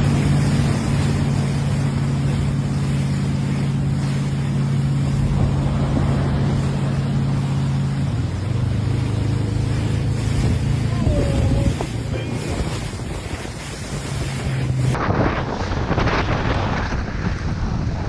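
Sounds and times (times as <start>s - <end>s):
engine humming: 0.0s - 15.0s
rushing wind: 0.0s - 18.0s
water noise: 0.0s - 18.0s.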